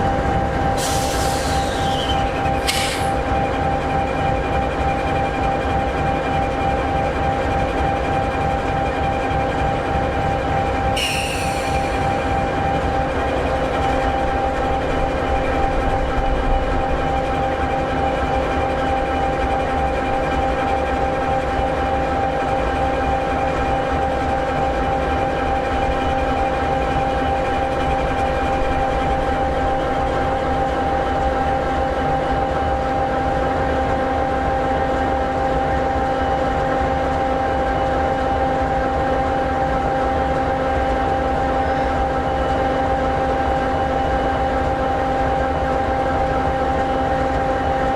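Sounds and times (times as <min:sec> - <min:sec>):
diesel locomotive idling: 0:00.0 - 0:47.9.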